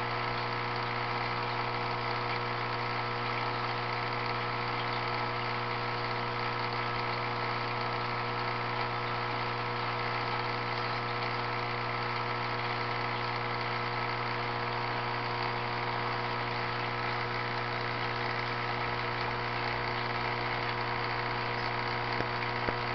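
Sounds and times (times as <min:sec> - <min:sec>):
aquarium pump humming: 0:00.0 - 0:22.9.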